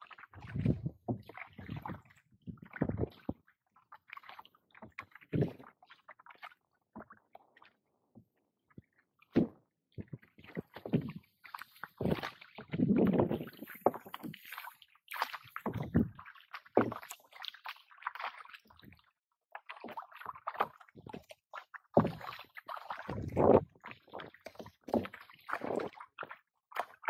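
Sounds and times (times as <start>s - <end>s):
paddle strokes splashing water: 0.0s - 27.0s.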